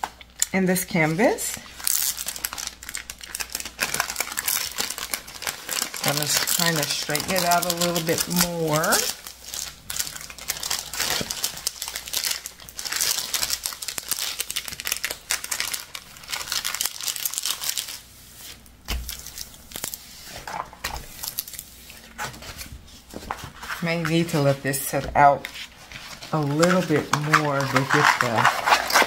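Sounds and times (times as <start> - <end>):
plastic film crinkling: 0.0 - 29.0.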